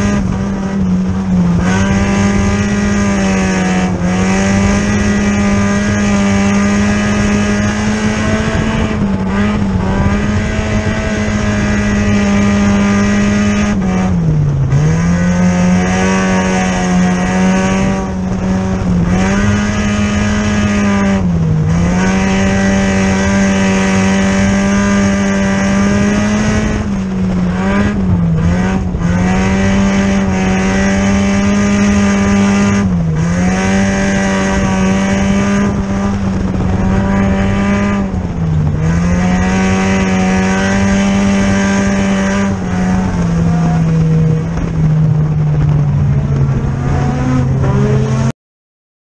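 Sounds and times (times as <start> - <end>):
race car engine running hard: 0.0 - 48.3.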